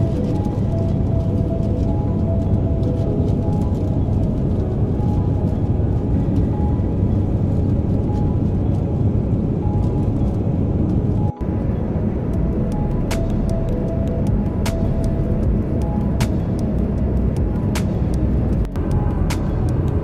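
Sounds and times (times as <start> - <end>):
airliner cabin engine roar: 0.0 - 20.0.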